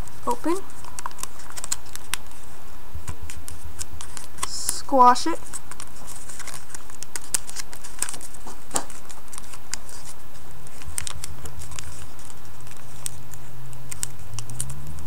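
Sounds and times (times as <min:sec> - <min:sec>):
paper crinkling: 0:00.0 - 0:15.0
paper creasing clicks: 0:00.7 - 0:02.4, 0:03.0 - 0:04.8, 0:05.4 - 0:15.0.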